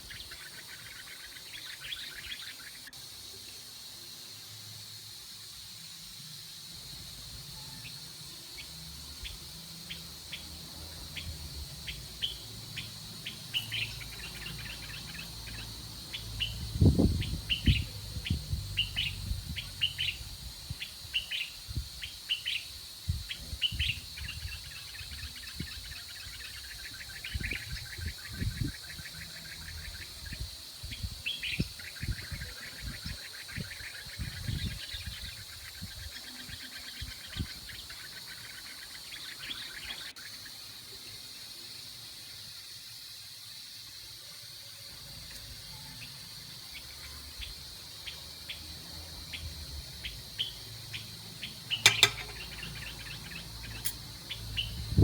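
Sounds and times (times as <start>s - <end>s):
small birds chirping: 0.0s - 5.2s, 6.3s - 55.0s.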